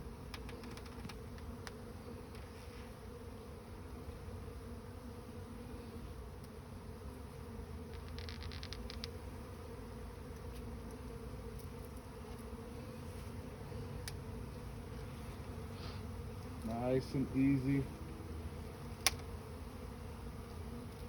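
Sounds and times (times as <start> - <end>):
bee swarm buzzing: 0.0 - 21.0.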